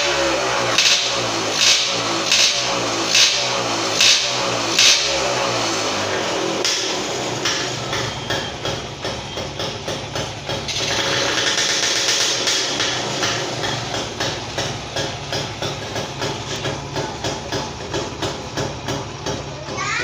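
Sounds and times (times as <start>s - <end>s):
motorcycle engine idling unevenly: 0.0s - 20.0s.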